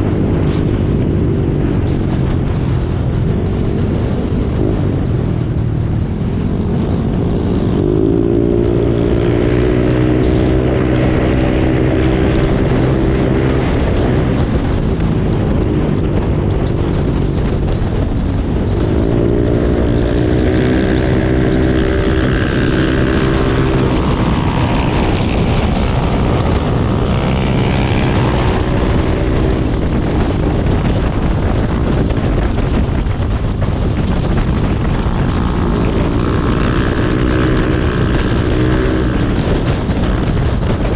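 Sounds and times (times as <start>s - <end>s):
motorcycle engine revving: 0.0s - 40.9s
wind on microphone: 0.0s - 40.9s.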